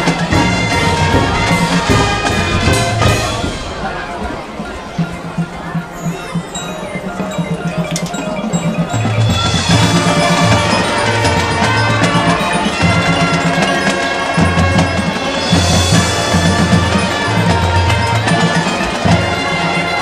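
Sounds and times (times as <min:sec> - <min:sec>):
brass and winds holding chords: 0:00.0 - 0:20.0
drumline percussion: 0:00.0 - 0:20.0.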